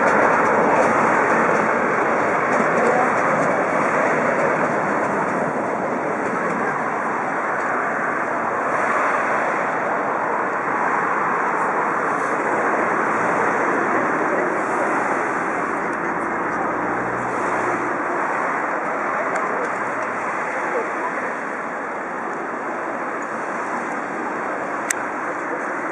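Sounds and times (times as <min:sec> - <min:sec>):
train coaches rolling over tracks: 0:00.0 - 0:25.9.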